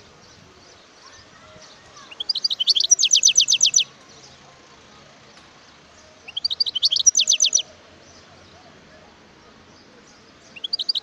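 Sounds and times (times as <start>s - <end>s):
finch singing: 0.0s - 11.0s.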